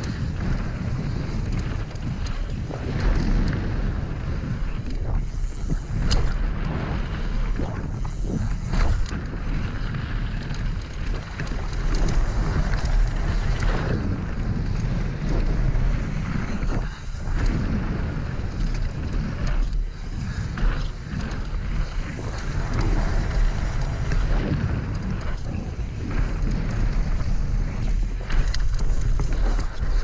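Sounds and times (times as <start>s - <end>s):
bike knocking and rattling: 0.0s - 30.0s
wind on microphone: 0.0s - 30.0s.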